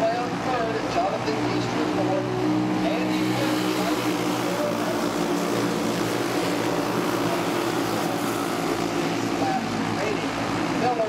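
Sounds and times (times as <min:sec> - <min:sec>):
racing kart engines droning: 0:00.0 - 0:11.0.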